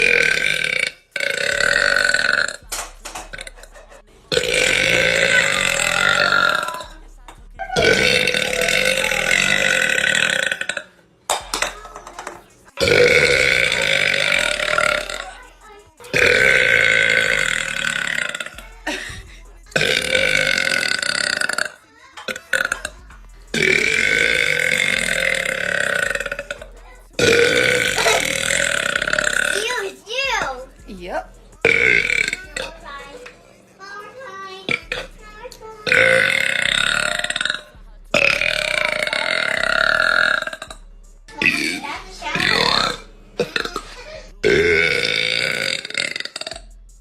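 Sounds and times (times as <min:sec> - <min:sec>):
woman belching: 0:00.0 - 0:02.6, 0:03.3 - 0:03.6, 0:04.3 - 0:06.9, 0:07.6 - 0:10.9, 0:12.8 - 0:15.4, 0:16.1 - 0:19.2, 0:19.8 - 0:29.8, 0:30.7 - 0:32.8, 0:34.8 - 0:35.1, 0:35.8 - 0:46.6
woman burping loudly: 0:00.0 - 0:02.6, 0:03.3 - 0:03.7, 0:04.3 - 0:06.9, 0:07.6 - 0:11.7, 0:12.8 - 0:15.4, 0:16.1 - 0:29.8, 0:31.0 - 0:32.8, 0:34.8 - 0:35.1, 0:35.8 - 0:46.6.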